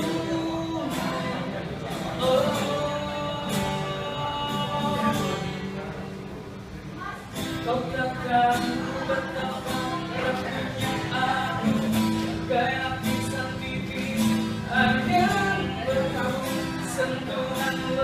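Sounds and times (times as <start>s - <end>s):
man singing: 0.0s - 6.1s, 7.4s - 18.0s
strummed acoustic guitar: 0.0s - 18.0s.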